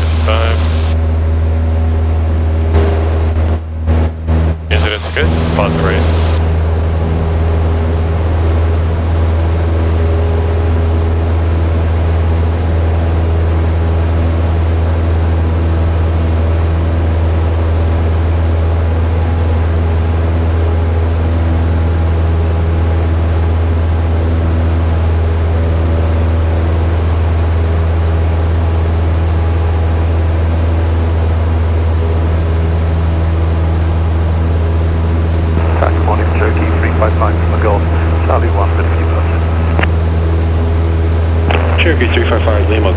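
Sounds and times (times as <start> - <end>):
propeller plane engine drone: 0.0 - 42.9.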